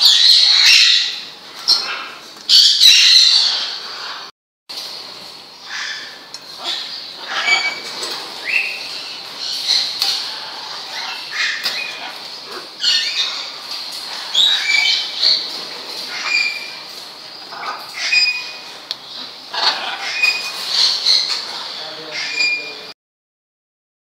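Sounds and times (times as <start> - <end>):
birds chirping and squeaking: 0.0 - 23.0.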